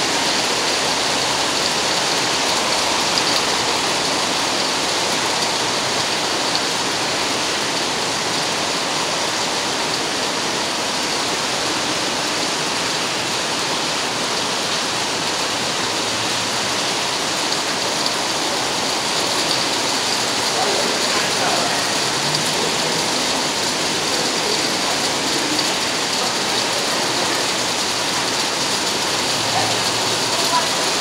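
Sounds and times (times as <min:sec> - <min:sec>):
rain on wet pavement: 0:00.0 - 0:31.0.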